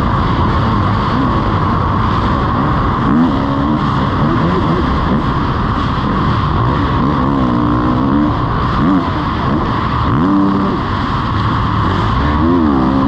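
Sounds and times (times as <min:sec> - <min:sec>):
motorcycle engine revving: 0:00.0 - 0:13.0
steady rushing noise: 0:00.0 - 0:13.0.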